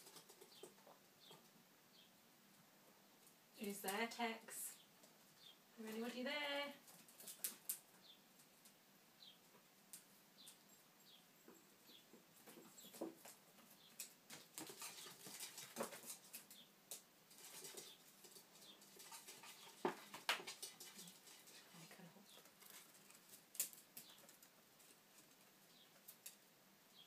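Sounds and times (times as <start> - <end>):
claws tapping and scratching: 0.0 - 2.1, 3.0 - 26.5.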